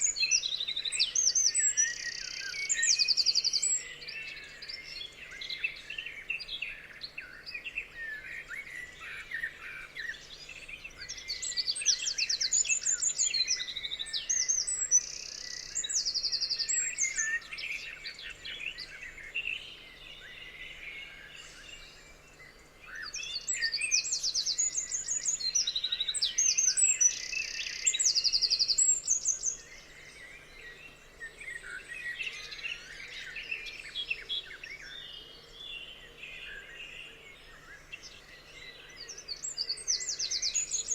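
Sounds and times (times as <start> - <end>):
bird song of fast trills: 0.0 - 40.9
songbirds chirping: 0.0 - 40.9.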